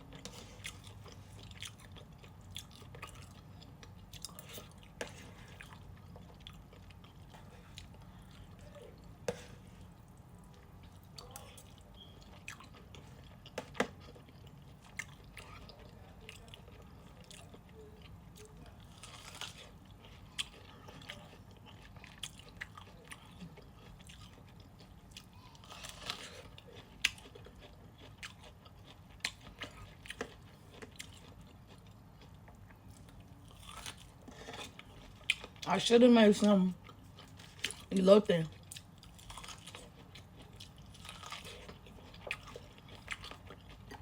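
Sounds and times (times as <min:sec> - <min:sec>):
person chewing close to microphone: 0:00.0 - 0:35.8, 0:36.8 - 0:44.0.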